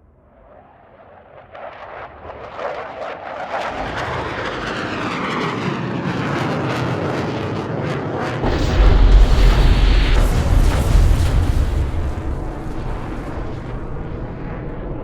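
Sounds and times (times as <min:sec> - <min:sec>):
bomber aircraft engines: 0:00.4 - 0:15.0.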